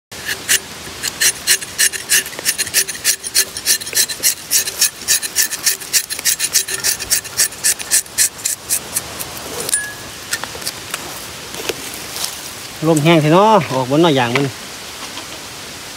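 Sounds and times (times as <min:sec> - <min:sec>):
knife scraping tree bark: 0:00.1 - 0:13.0.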